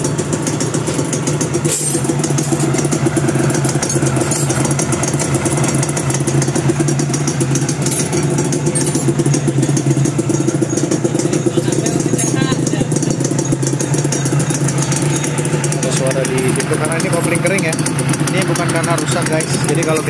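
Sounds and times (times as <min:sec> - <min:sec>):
dry clutch clatter: 0:00.0 - 0:20.0
motorcycle engine idling: 0:00.0 - 0:20.0.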